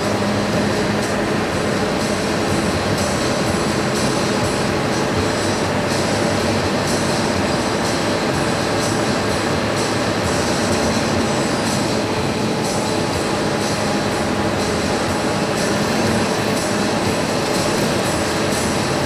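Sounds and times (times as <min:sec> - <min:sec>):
truck diesel engine running: 0:00.0 - 0:19.0
tyre and cab noise: 0:00.0 - 0:19.0.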